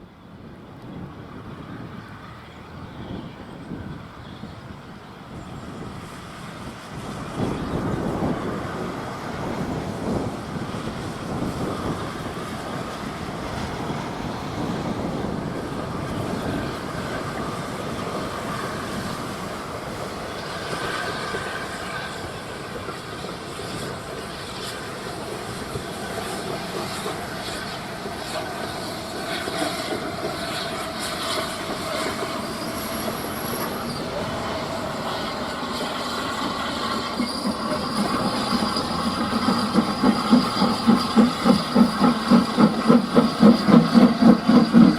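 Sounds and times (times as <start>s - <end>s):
train running on track: 0.0s - 44.9s
clickety-clack of rail joints: 6.1s - 44.9s
wheel squeal: 7.1s - 44.9s.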